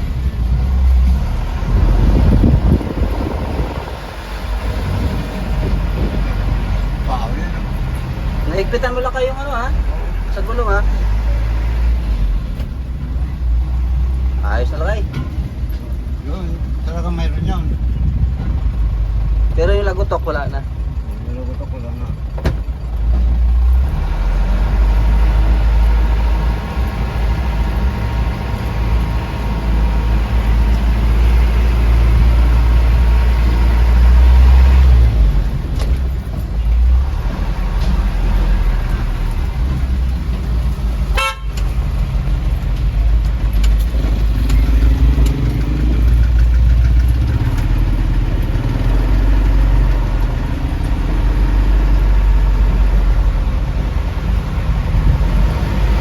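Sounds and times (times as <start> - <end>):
vehicle engine low rumble: 0.0 - 56.0.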